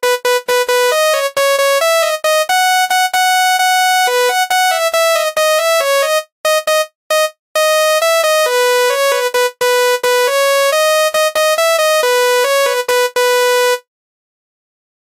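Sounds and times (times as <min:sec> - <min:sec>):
musical bus horn melody: 0:00.0 - 0:13.9.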